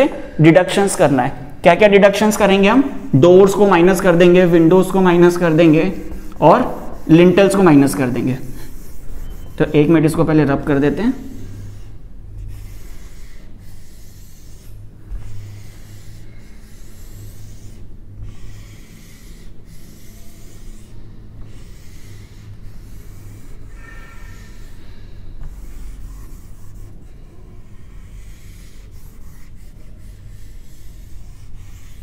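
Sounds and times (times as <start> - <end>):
eraser rubbing on whiteboard: 2.3 - 32.0.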